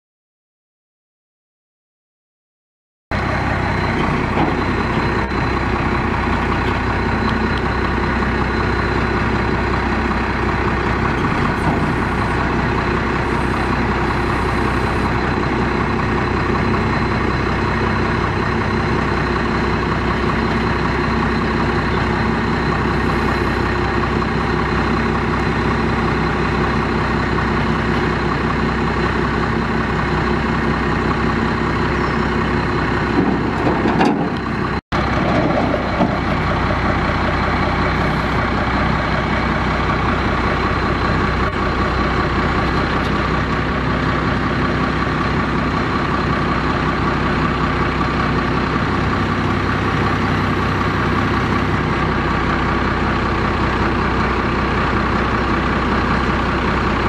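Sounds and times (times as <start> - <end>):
diesel truck engine idling: 3.1 - 57.0.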